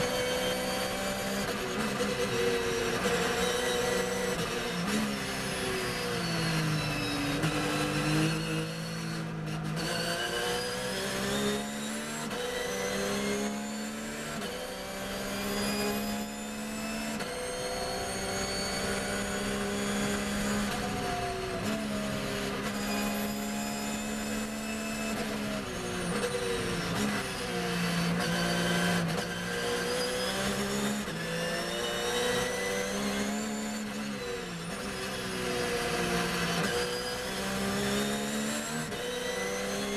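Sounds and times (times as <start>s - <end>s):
race car engine revving: 6.2s - 39.9s.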